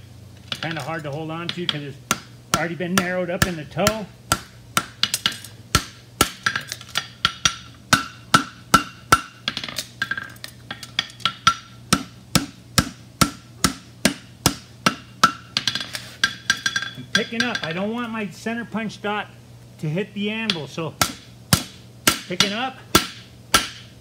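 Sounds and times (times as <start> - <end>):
hammer striking horseshoe on anvil: 1.5 - 18.1, 20.4 - 23.9.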